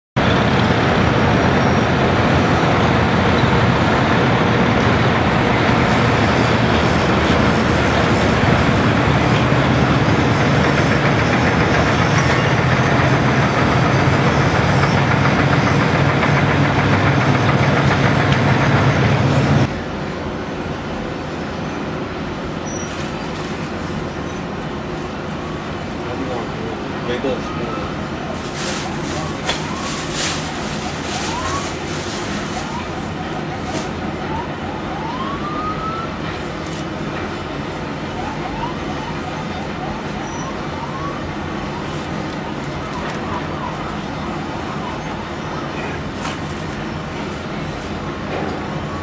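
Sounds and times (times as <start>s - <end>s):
distant construction site noise: 0.2s - 49.0s
excavator diesel engine droning: 0.2s - 49.0s.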